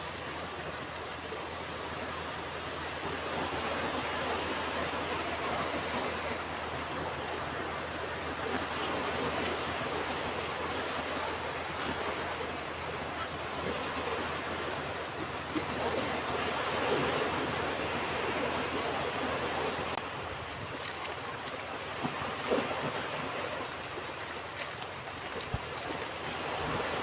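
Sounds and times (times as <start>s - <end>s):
waves washing onto beach: 0.0s - 27.0s.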